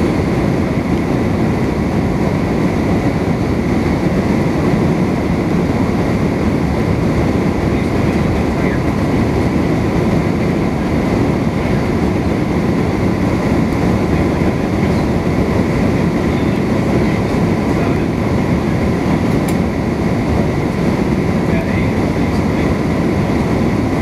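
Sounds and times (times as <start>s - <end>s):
aircraft cabin rumble: 0.0s - 24.0s
faint steady whine: 0.0s - 24.0s.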